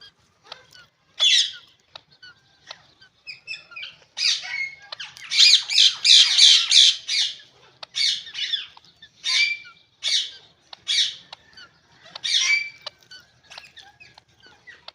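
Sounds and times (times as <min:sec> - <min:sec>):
parrots squawking: 0:00.0 - 0:14.9.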